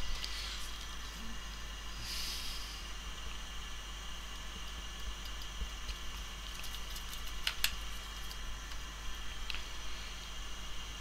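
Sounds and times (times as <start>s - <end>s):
low hiss and hum: 0.0s - 11.0s.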